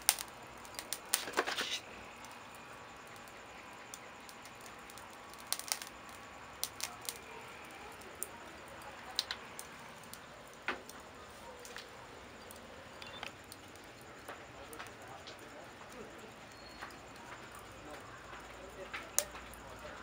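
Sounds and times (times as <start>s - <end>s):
faint steady hiss: 0.0s - 20.0s
wood fire crackling and popping: 0.0s - 20.0s.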